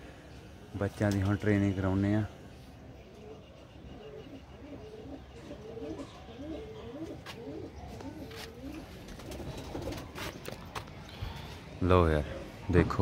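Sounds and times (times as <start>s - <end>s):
pigeons cooing: 1.5s - 12.8s.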